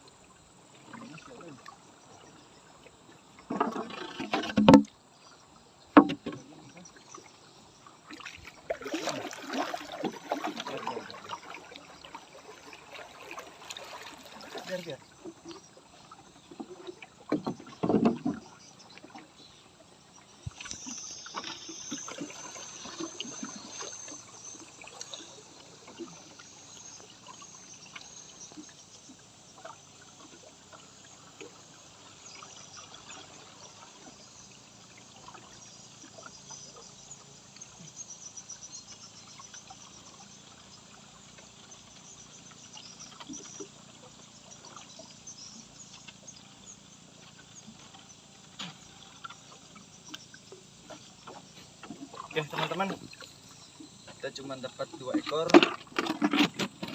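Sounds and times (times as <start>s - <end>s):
water trickling and lapping: 0.0s - 56.9s.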